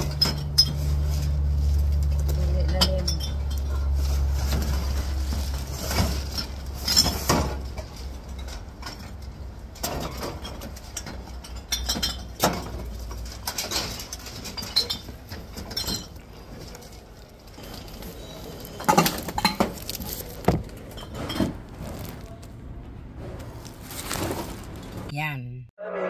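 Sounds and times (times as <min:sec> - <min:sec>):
plastic bottles and cans clattering: 0:00.0 - 0:22.4.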